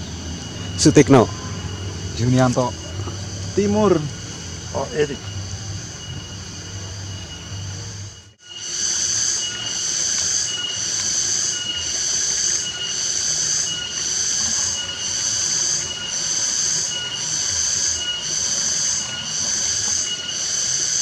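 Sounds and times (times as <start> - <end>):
insects buzzing in pulses: 0.0 - 21.0.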